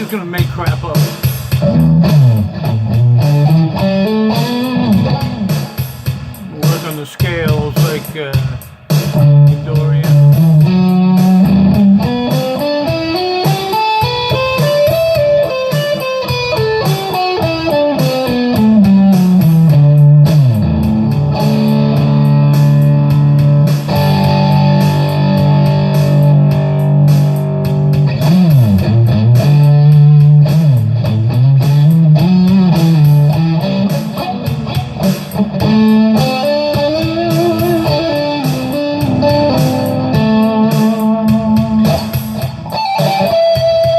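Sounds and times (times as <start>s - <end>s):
electric guitar lead: 0.0s - 43.9s.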